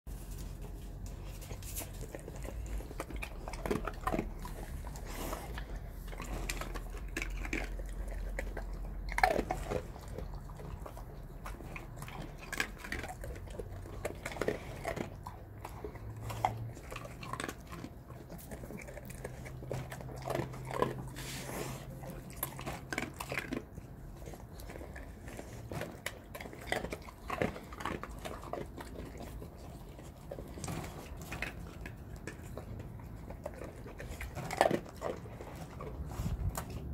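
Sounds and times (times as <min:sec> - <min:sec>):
animal chewing: 0:00.1 - 0:36.9
low steady hum: 0:00.1 - 0:36.9.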